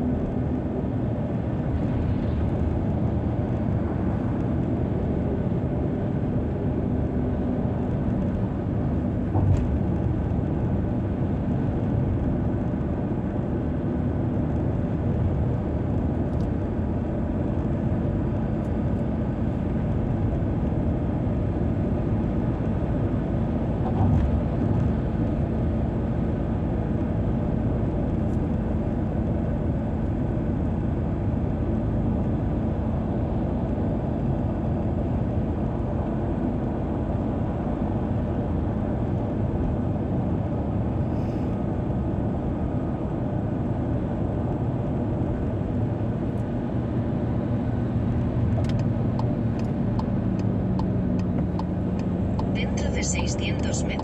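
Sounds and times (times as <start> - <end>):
car driving on highway: 0.0 - 54.0.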